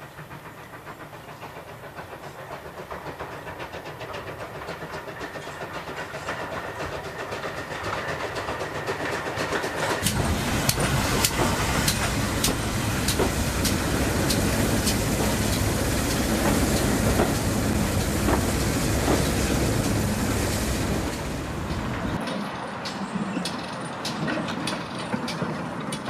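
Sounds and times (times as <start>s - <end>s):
steam train chuffing and hissing: 0.0s - 26.0s
wheels clicking over rail joints: 0.0s - 26.0s.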